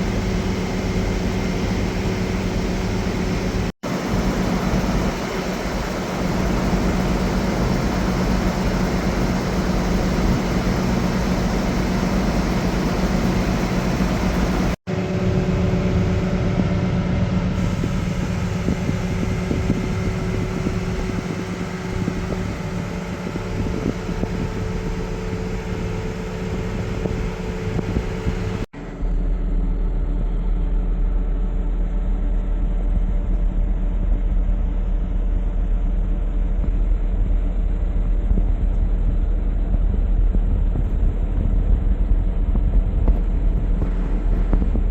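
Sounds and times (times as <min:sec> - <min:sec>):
combine harvester engine running: 0:00.0 - 0:44.9.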